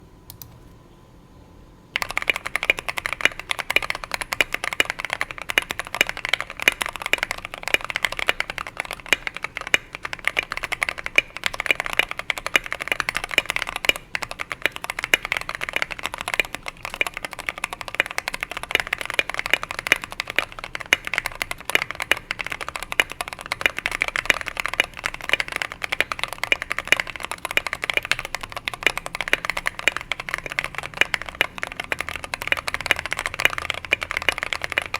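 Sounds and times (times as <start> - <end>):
fast typing on mechanical keyboard: 2.0 - 34.9.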